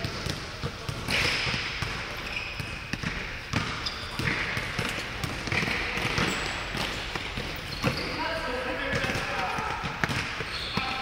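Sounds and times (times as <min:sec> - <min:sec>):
basketball bouncing: 0:00.0 - 0:08.2, 0:08.8 - 0:11.0
sneaker squeaks: 0:00.0 - 0:11.0.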